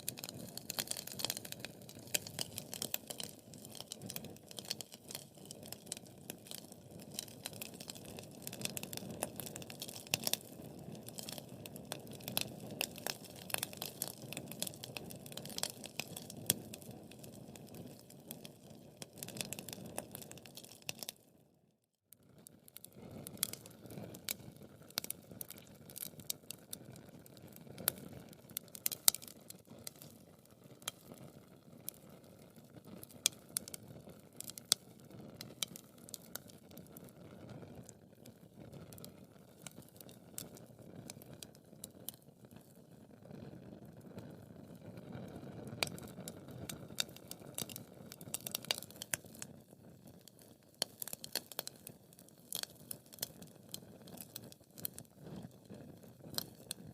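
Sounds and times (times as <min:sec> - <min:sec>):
low sound of flames: 0:00.0 - 0:21.2, 0:22.2 - 0:56.9
wood fire crackling and popping: 0:00.0 - 0:21.2, 0:22.4 - 0:56.9.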